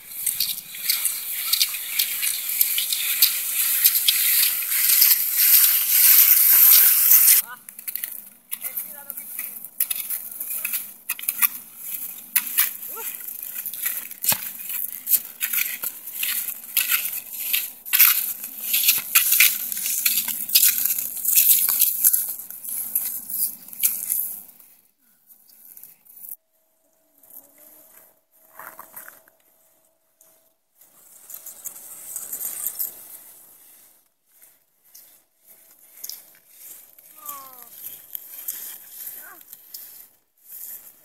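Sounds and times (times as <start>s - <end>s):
crunching and scraping on snow: 0.0s - 26.4s, 27.1s - 41.0s.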